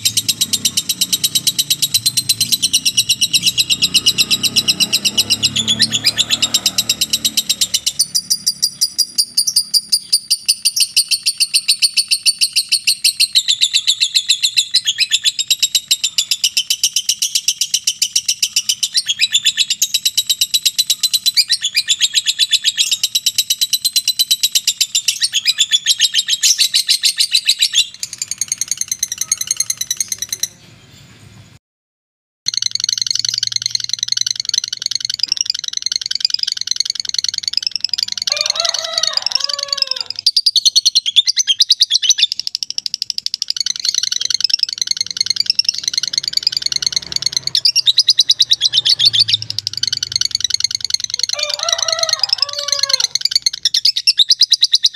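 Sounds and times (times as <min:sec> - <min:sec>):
lovebird chattering: 0:00.0 - 0:30.7, 0:32.5 - 0:54.9.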